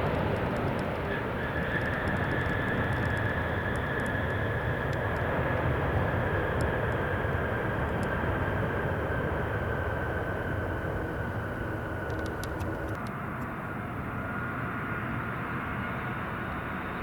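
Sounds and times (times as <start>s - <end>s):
jet engines passing with whine: 0.0s - 17.0s.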